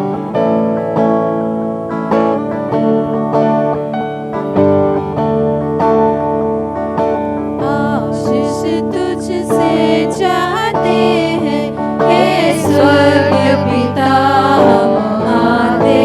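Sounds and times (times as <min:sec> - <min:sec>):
strummed acoustic guitar music: 0:00.0 - 0:16.0.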